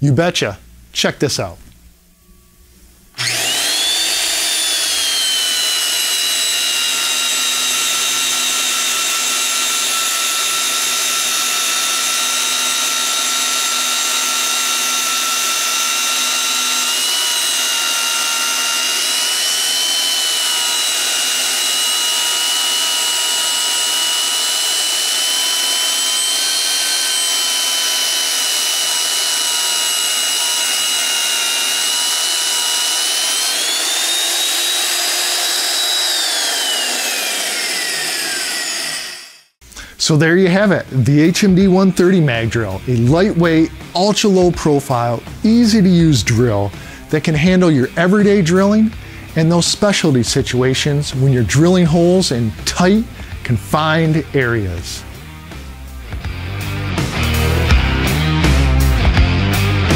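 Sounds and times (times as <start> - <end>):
magnetic drill motor whine: 3.1 - 39.6, 41.2 - 59.9
cutter cutting through steel: 3.2 - 39.6, 40.4 - 59.9.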